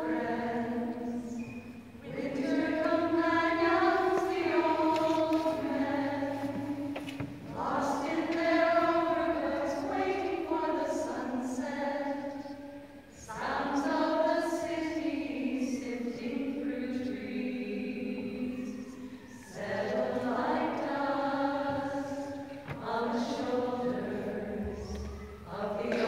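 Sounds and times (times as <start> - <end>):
women singing a cappella: 0.0 - 26.0.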